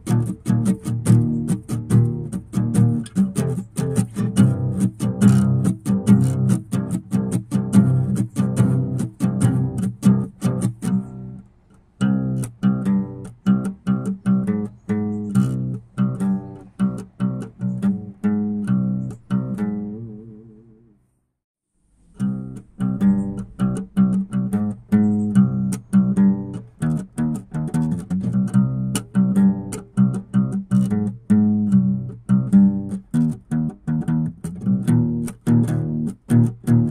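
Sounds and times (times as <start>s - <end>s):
plucked strings music with beat: 0.0s - 20.9s, 22.0s - 36.9s.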